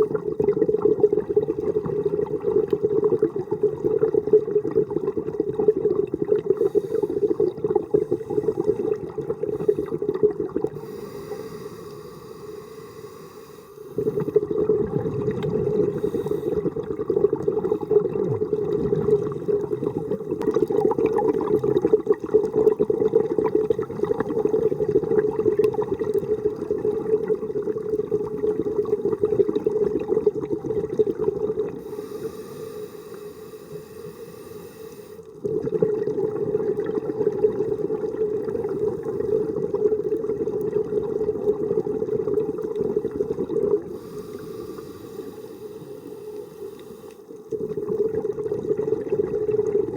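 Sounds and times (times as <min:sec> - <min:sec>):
underwater exhaled bubbles: 0:00.0 - 0:49.9.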